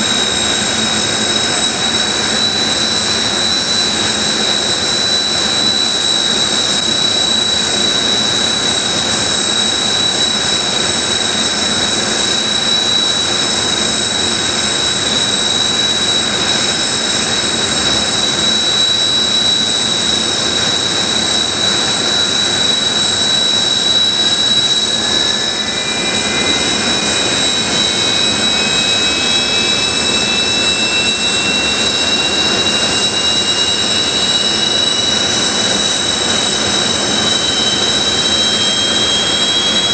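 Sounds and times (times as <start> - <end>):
jet engine spooling up: 0.0 - 39.9
jet engines whining at idle: 0.0 - 39.9.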